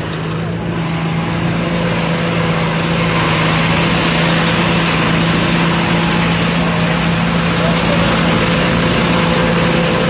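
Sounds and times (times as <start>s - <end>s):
rice thresher running: 0.0s - 10.0s.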